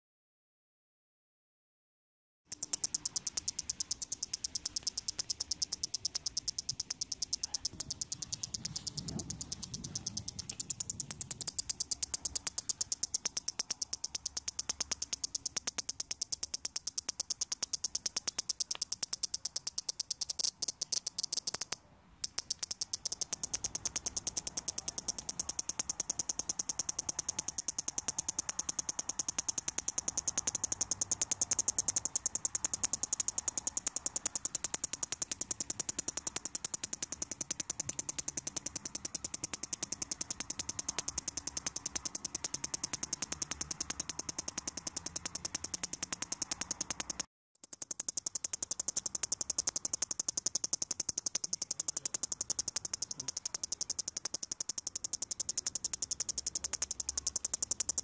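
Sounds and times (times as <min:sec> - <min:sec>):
cicada clicking rattle: 0:02.5 - 0:58.0.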